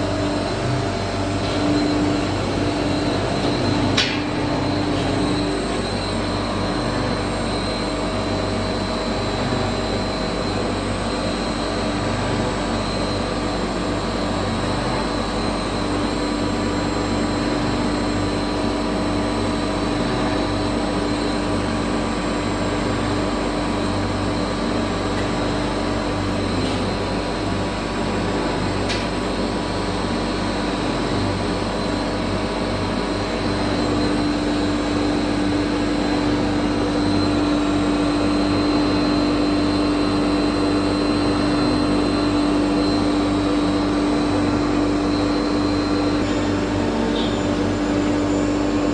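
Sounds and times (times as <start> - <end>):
router machining with spindle whine: 0.0 - 48.9.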